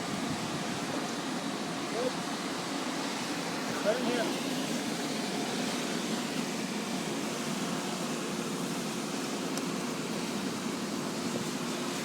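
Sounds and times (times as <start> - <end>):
air blowing into furnace: 0.0 - 12.0.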